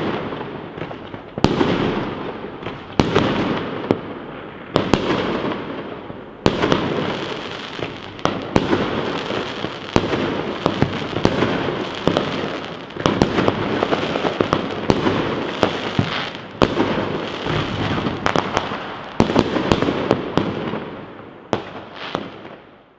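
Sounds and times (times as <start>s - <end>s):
fireworks bursting with bangs and crackling: 0.0s - 22.9s.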